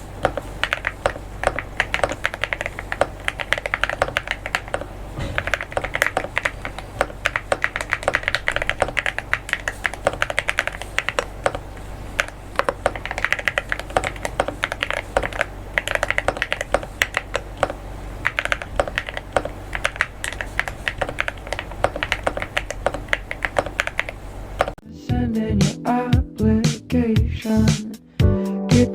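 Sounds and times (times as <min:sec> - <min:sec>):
typing on mechanical keyboard: 0:00.2 - 0:24.8.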